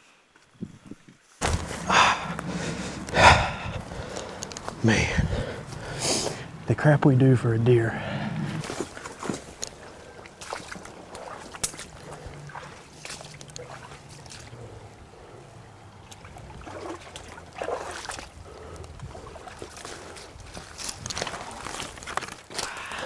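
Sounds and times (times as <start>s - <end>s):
creek trickling: 1.4s - 23.0s.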